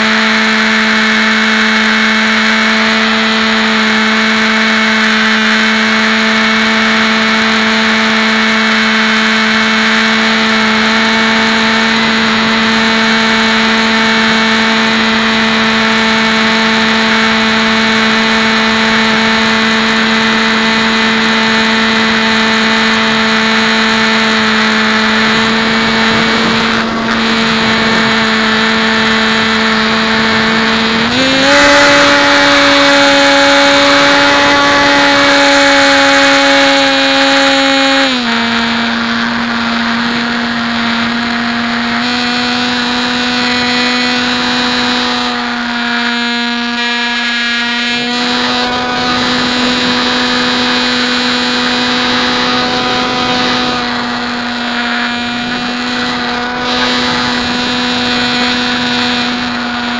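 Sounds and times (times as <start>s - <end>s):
electric motor and propeller whining: 0.0s - 59.9s.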